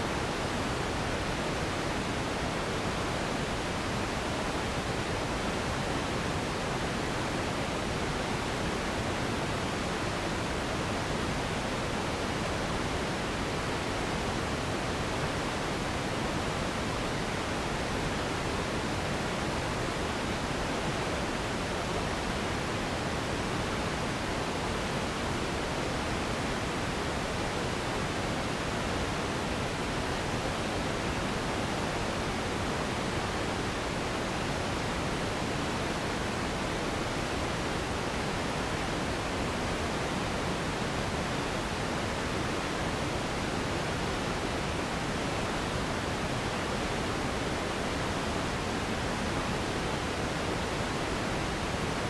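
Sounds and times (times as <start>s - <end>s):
steady pink noise hiss: 0.0s - 52.0s.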